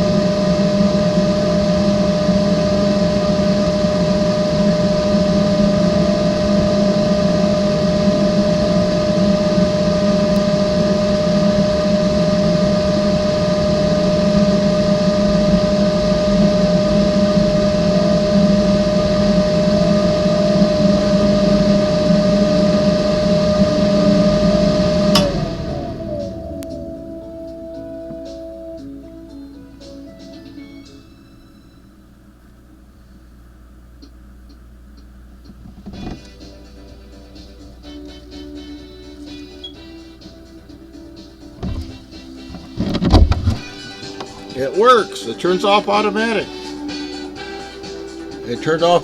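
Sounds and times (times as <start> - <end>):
small fan whining: 0.0 - 49.0.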